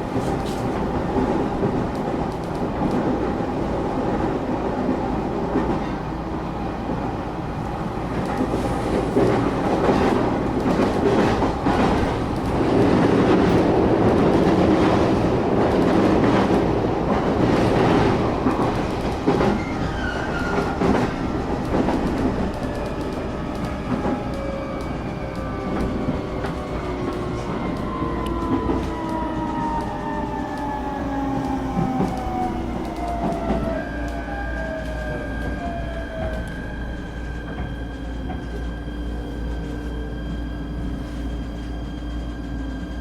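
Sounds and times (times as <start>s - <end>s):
train rumbling: 0.0s - 43.0s.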